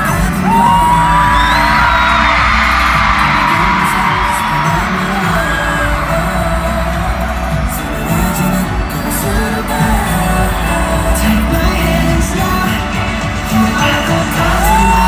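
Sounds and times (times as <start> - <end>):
band playing a steady beat: 0.0 - 15.0
crowd screaming and cheering: 0.0 - 15.0.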